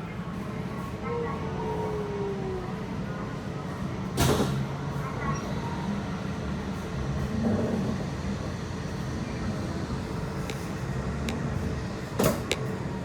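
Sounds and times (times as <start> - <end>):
bullet train rumbling: 0.0 - 13.0.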